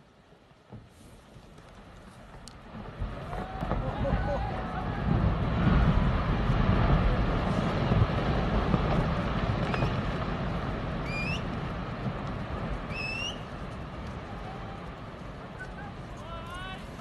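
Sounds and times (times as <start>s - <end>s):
ice collapsing with deep rumble: 1.1s - 17.0s.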